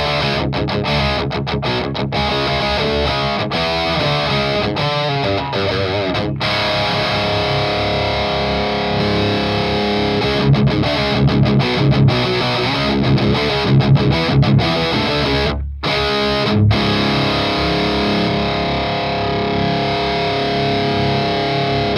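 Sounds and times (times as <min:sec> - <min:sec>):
distorted electric guitar: 0:00.0 - 0:21.9.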